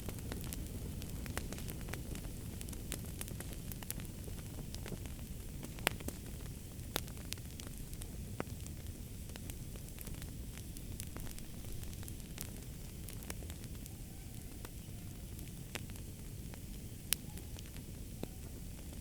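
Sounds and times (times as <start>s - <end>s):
sharp fire snaps: 0.0s - 19.0s
wood fire crackling: 0.0s - 19.0s.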